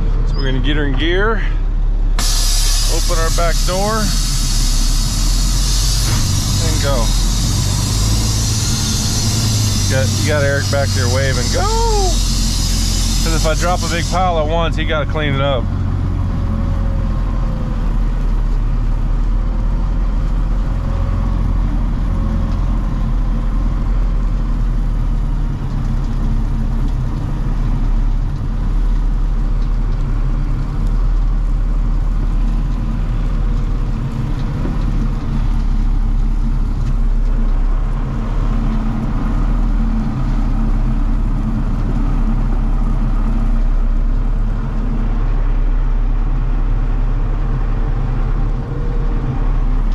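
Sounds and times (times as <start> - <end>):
dump truck engine running: 0.0 - 49.9.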